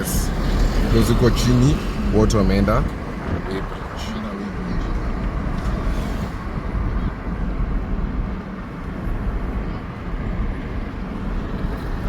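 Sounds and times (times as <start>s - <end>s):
car driving on highway: 0.0s - 12.0s.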